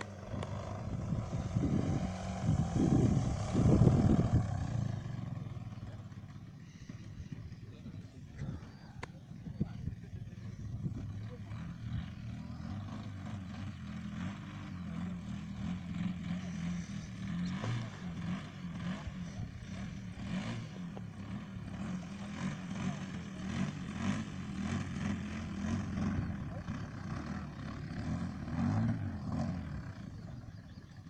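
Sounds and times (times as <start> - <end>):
model aircraft engine droning: 0.0 - 31.0.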